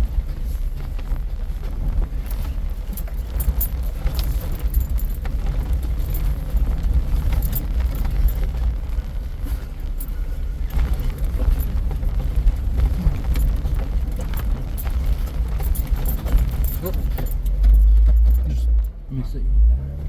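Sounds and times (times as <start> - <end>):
rattles and clicks: 0.0 - 19.1
vehicle driving on rough trail: 0.0 - 20.0.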